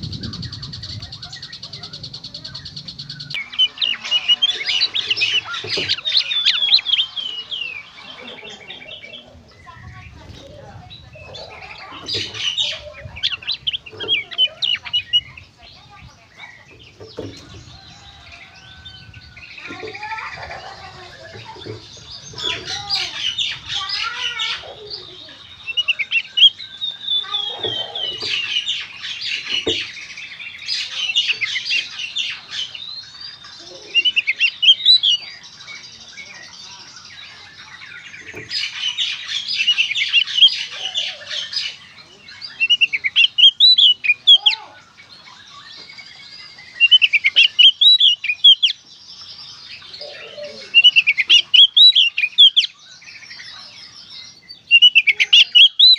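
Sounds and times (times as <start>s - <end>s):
bird singing whistles and chatter: 0.0s - 55.9s.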